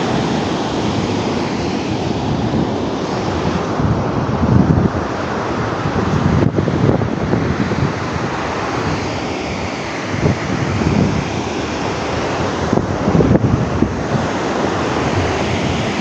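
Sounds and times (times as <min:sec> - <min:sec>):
water surging: 0:00.0 - 0:16.0
wind buffeting microphone: 0:00.0 - 0:16.0.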